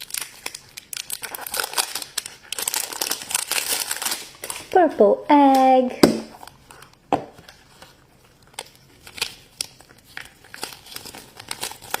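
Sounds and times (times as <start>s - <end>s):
plastic clicks and crinkles: 0.0s - 4.8s, 6.4s - 12.0s.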